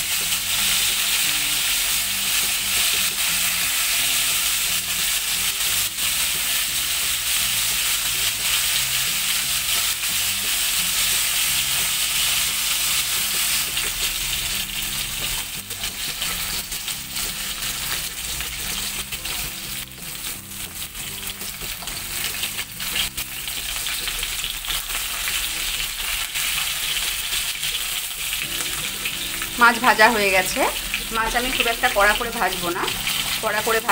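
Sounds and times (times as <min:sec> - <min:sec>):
fish sizzling in hot oil: 0:00.0 - 0:33.9
wooden spatula in pan: 0:00.1 - 0:33.9.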